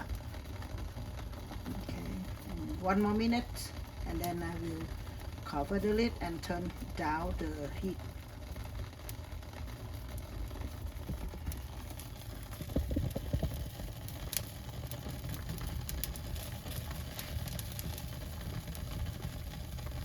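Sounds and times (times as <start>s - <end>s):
pot boiling and bubbling: 0.0s - 20.0s.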